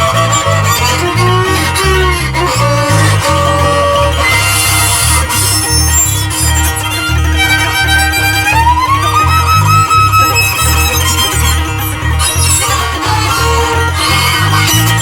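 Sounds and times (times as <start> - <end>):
pulsing bass line: 0.0 - 15.0
violin playing: 0.0 - 15.0.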